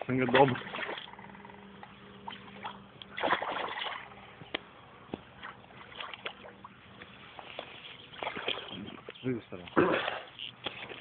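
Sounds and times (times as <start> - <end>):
fish splashing in water: 0.0 - 1.4, 2.2 - 4.2, 5.3 - 11.0.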